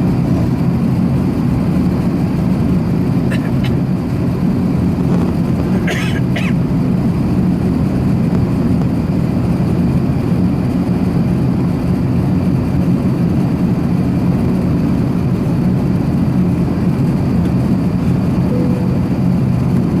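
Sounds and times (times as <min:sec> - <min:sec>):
low drone of jet engines: 0:00.0 - 0:20.0.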